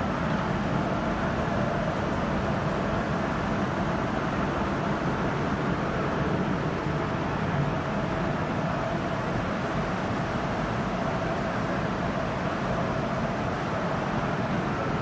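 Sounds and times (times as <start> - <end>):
machine running with faint whine: 0.0 - 15.0.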